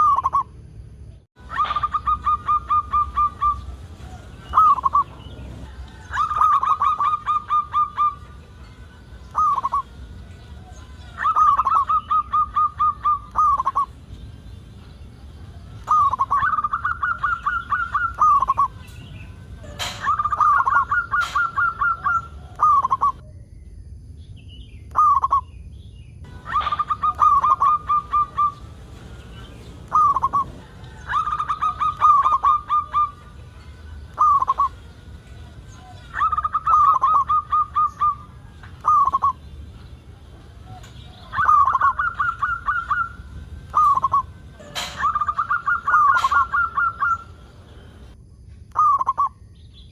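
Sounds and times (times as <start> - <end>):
dove cooing: 1.4 - 8.4, 9.3 - 14.0, 15.5 - 23.2, 26.3 - 48.1.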